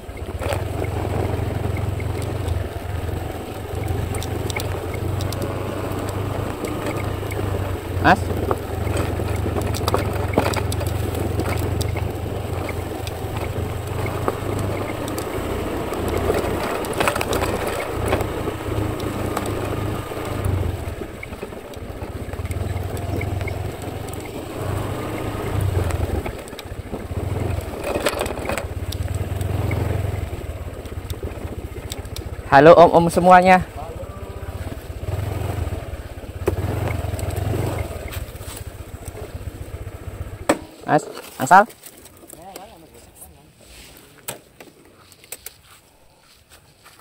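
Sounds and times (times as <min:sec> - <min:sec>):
scooter engine running: 0:00.0 - 0:43.1
tyres crunching over dry leaves: 0:00.2 - 0:32.4, 0:34.3 - 0:47.0
knocks from bumpy ride: 0:00.4 - 0:33.7, 0:34.5 - 0:41.9.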